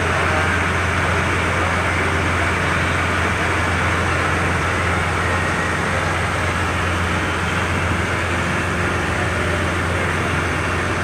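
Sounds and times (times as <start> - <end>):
ferry engine humming: 0.0 - 11.0.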